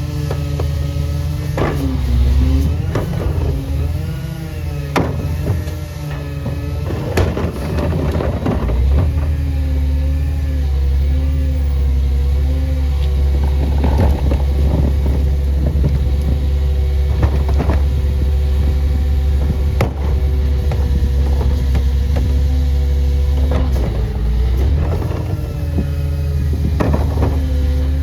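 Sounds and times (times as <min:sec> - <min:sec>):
garbage truck engine hum: 0:00.0 - 0:28.0
clanks and knocks: 0:01.4 - 0:09.8, 0:13.0 - 0:28.0.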